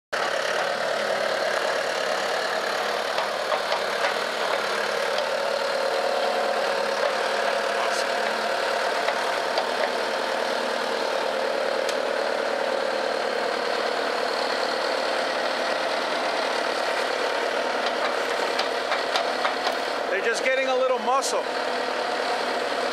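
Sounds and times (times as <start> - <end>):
engine idling: 0.2 - 22.9.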